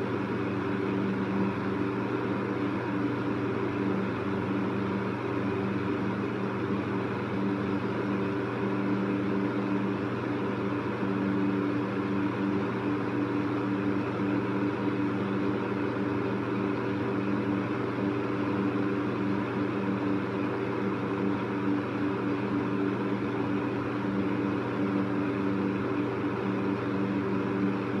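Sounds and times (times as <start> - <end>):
electric fan running: 0.0 - 28.0.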